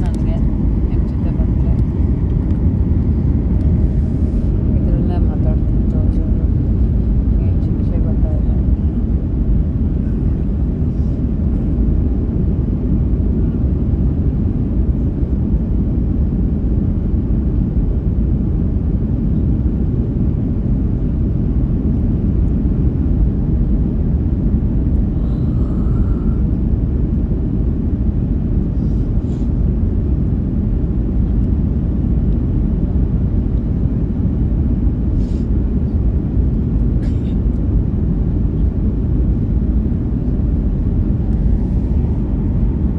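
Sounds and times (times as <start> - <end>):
airliner engine rumble: 0.0 - 42.9.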